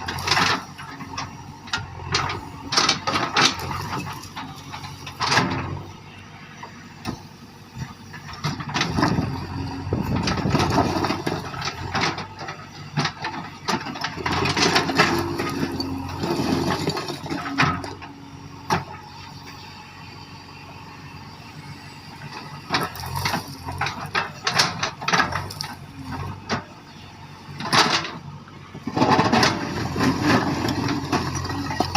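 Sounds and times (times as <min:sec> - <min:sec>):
digger clanking through stones: 0:00.0 - 0:06.0, 0:06.6 - 0:19.4, 0:21.2 - 0:31.9
diesel engine running: 0:00.0 - 0:31.9.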